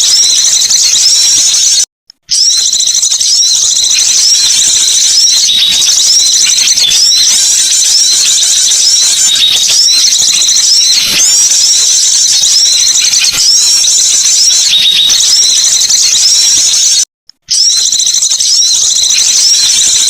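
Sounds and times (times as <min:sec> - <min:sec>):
recorded bird chatter: 0:00.0 - 0:20.0.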